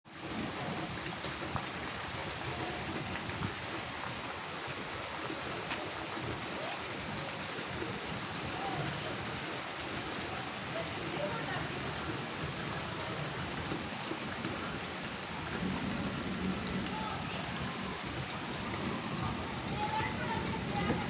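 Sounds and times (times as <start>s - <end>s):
faint ticks of raindrops: 0.1s - 21.0s
steady rain hiss: 0.1s - 21.0s.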